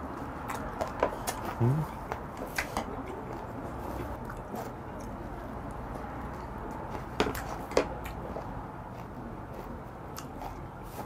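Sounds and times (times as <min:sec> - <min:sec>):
person chewing with crunches: 0:00.0 - 0:11.0.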